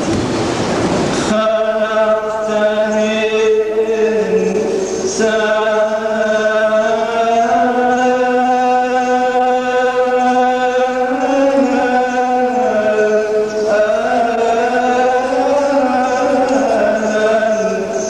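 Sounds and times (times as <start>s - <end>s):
man chanting solo: 1.3s - 18.0s.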